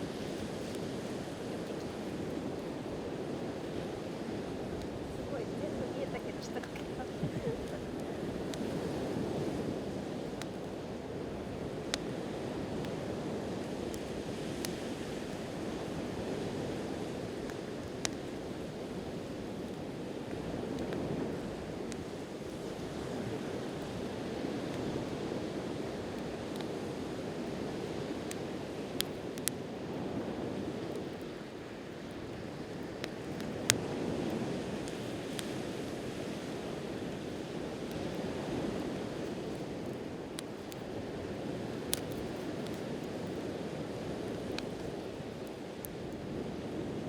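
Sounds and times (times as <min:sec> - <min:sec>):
campfire crackling and popping: 0:00.0 - 0:47.0
ocean surf: 0:00.0 - 0:47.0.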